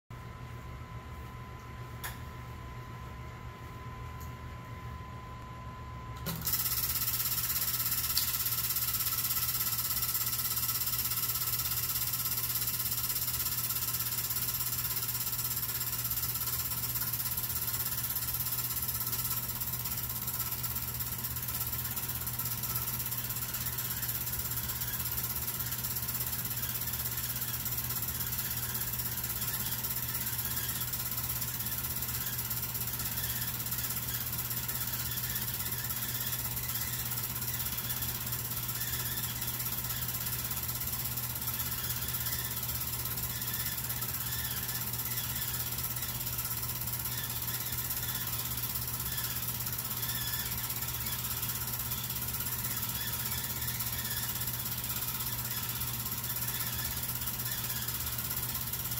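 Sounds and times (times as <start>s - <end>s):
film projector whirring: 3.9s - 58.9s.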